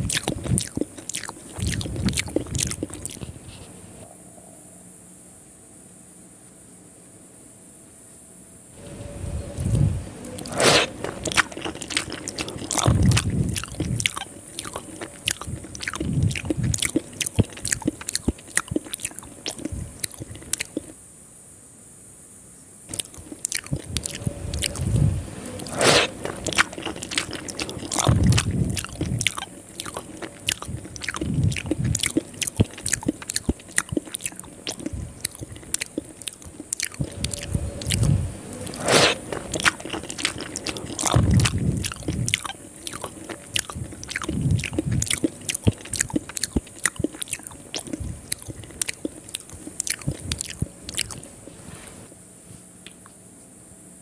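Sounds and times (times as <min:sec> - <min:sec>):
lip smacks and mouth clicks: 0:00.0 - 0:03.8, 0:09.6 - 0:21.0, 0:22.9 - 0:51.4
wet chewing and squishing: 0:00.0 - 0:03.8, 0:09.6 - 0:21.0, 0:22.9 - 0:51.5.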